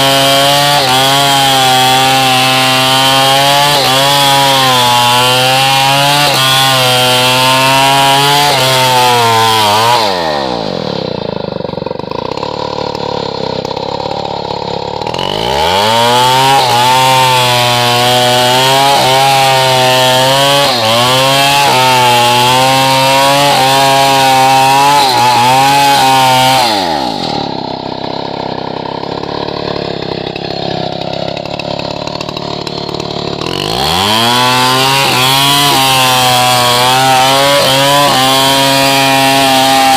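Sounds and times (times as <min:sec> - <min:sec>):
chainsaw cutting hardwood: 0:00.0 - 0:39.9.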